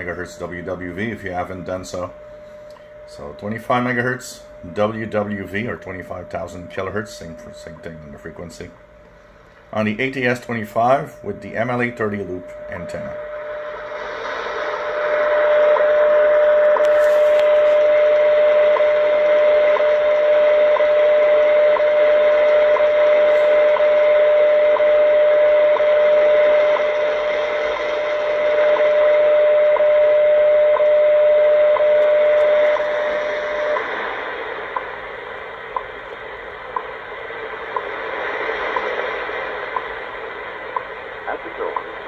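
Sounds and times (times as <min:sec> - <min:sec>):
shortwave static hiss: 0:00.0 - 0:42.0
steady radio tone: 0:00.0 - 0:42.0
time signal ticks: 0:00.0 - 0:42.0.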